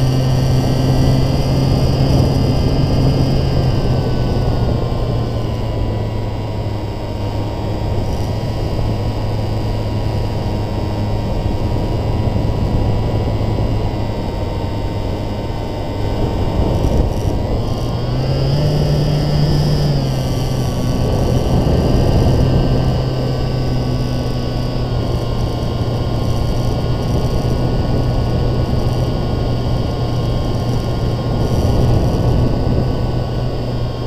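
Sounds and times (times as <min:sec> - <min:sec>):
model airplane motor and propeller: 0:00.0 - 0:34.0
wind rushing over microphone: 0:00.0 - 0:34.0.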